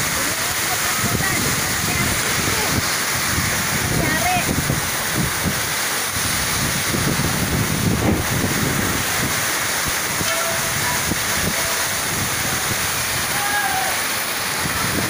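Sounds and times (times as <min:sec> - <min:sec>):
wind buffeting microphone: 0:00.0 - 0:13.4, 0:14.3 - 0:15.0
rain on metal roofs: 0:00.0 - 0:15.0.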